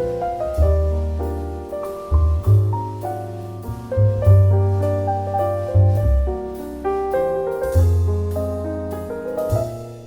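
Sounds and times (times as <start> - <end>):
bass line: 0.0 - 10.0
gentle piano chords: 0.0 - 10.0.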